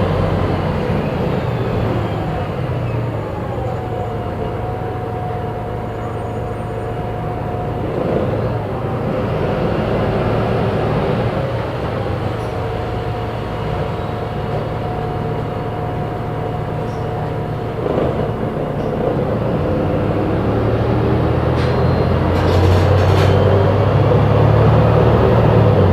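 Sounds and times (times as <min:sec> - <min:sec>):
bus engine drone with whine: 0:00.0 - 0:25.9.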